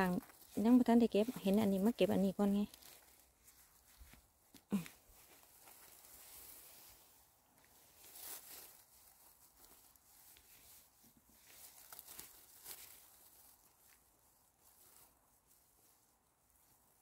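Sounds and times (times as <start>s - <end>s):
rustling of forest-floor litter: 0.0s - 17.0s.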